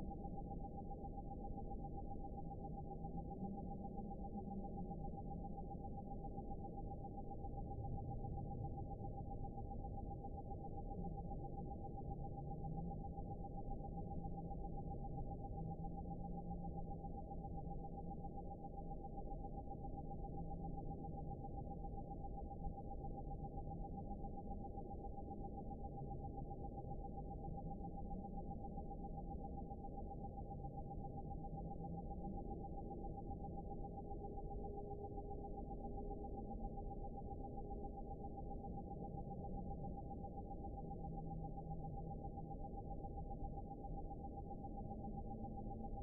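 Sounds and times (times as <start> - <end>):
low wavering hum: 0.0 - 46.0
steady pure tone: 0.0 - 46.0.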